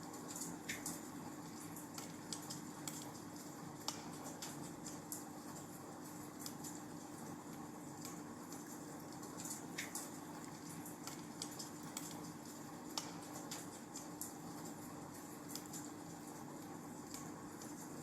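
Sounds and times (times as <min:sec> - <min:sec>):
wood fire crackling: 0:00.1 - 0:18.0.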